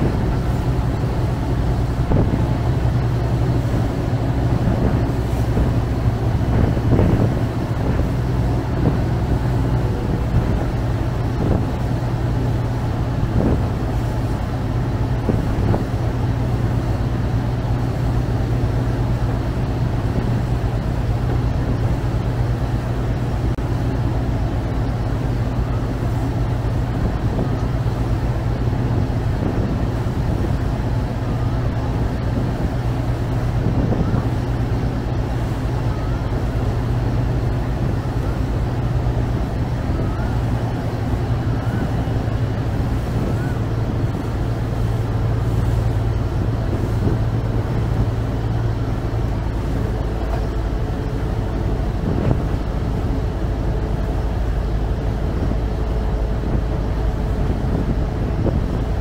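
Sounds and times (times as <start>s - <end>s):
boat diesel engine drone: 0.0s - 59.0s
water churning along hull: 0.0s - 59.0s.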